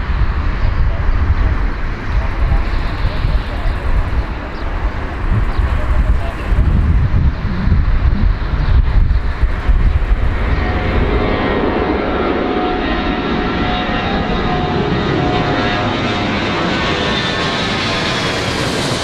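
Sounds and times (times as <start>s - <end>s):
jet engines whining: 0.0s - 19.0s
wind rumble on microphone: 0.0s - 19.0s.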